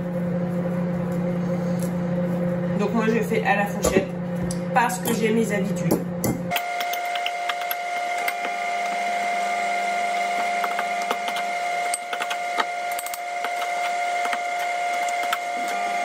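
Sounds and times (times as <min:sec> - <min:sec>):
appliance hum with high whine: 0:00.0 - 0:16.0.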